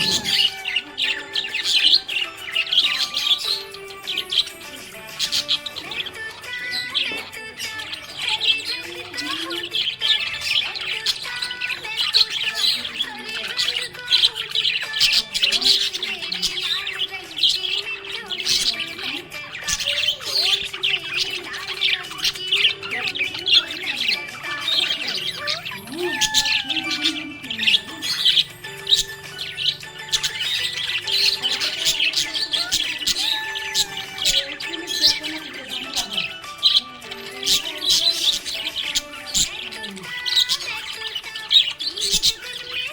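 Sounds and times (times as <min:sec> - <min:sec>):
budgerigars chirping and warbling: 0:00.0 - 0:42.9.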